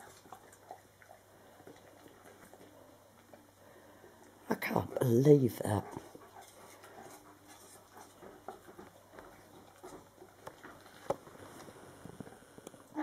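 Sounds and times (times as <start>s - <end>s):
dog chewing apple: 0.0s - 3.5s, 4.6s - 12.8s.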